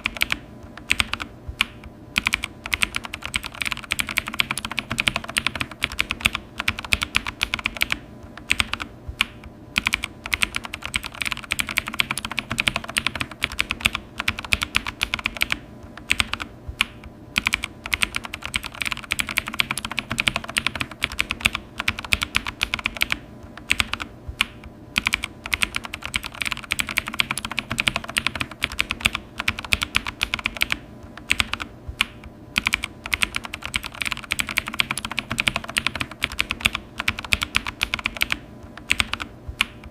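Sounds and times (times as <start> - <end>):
keyboard key clicks: 0.0 - 39.9.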